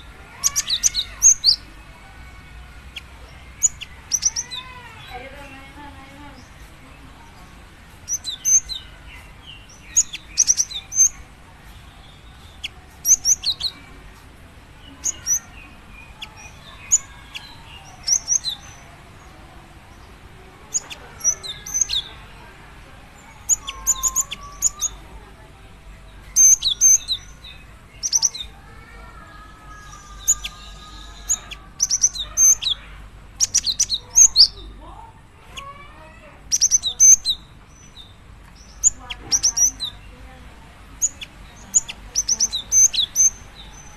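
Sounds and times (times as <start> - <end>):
bird chirping calls: 0.0 - 43.9.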